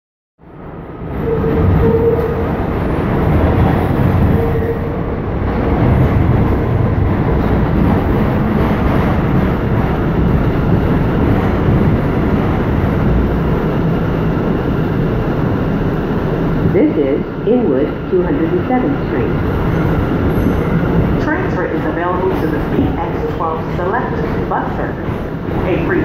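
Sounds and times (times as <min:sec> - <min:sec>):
subway car rumble: 0:00.4 - 0:26.0.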